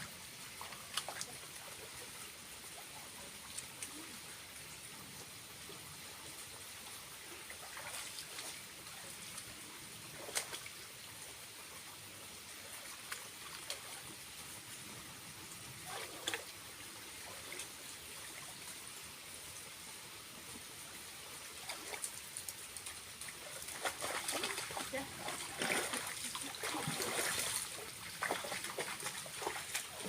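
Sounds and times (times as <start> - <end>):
small waterfall trickling: 0.0 - 30.0
water splashes and drips: 0.0 - 30.0.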